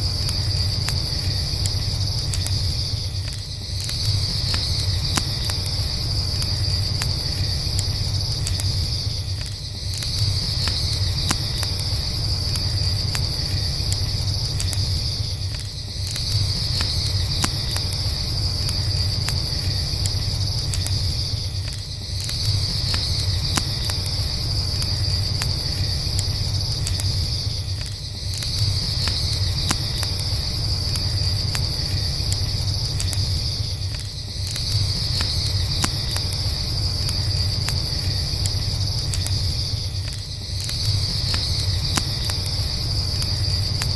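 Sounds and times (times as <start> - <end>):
campfire crackling: 0.0 - 43.9
crickets chirring: 0.0 - 43.9.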